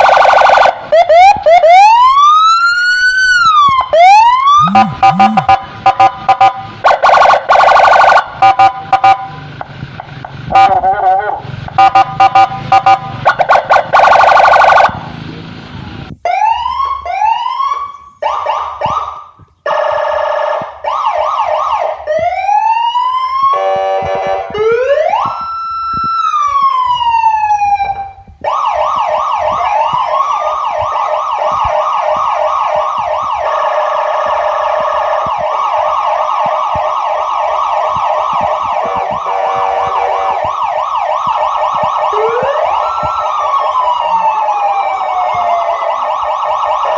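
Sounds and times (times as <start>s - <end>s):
emergency vehicle sirens: 0.0s - 46.9s.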